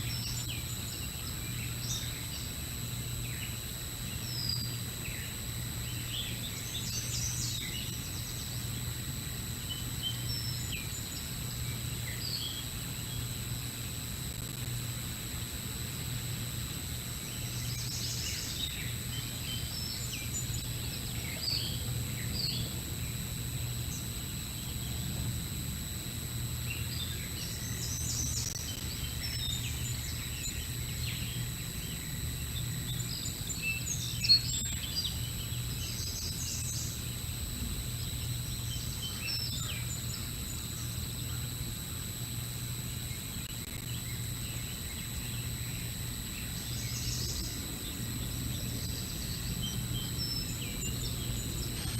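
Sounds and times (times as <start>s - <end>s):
low electrical hum: 0.0s - 51.9s.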